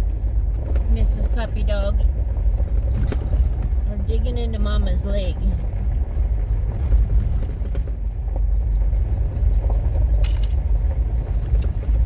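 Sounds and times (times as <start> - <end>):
vehicle road rumble: 0.0 - 12.0.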